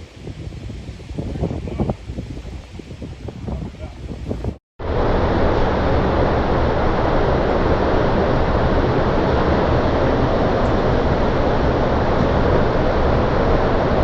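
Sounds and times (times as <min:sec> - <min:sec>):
strong storm wind rushing: 0:00.0 - 0:14.0.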